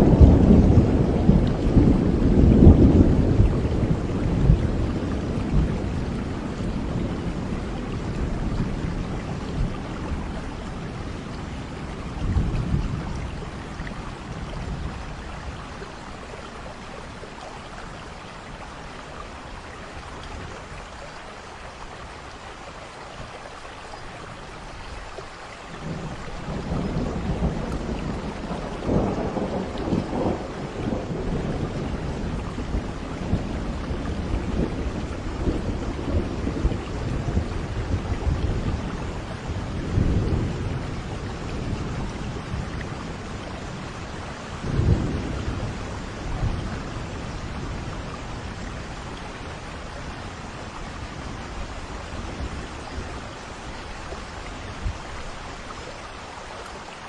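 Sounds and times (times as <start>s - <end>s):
rolling thunder: 0.0s - 17.7s, 25.8s - 55.4s
heavy rain: 0.0s - 57.0s.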